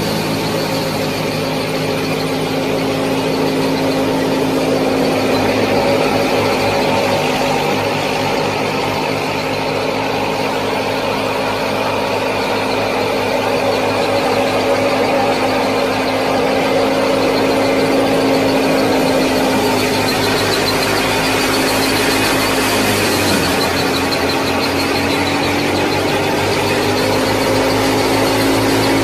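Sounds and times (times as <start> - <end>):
small motor humming and whining: 0.0 - 29.0.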